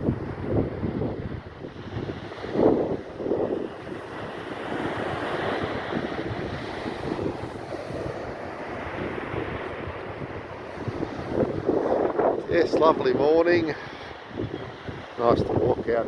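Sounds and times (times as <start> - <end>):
small waves washing on sand: 0.0 - 16.0
wind buffeting microphone: 0.0 - 16.0.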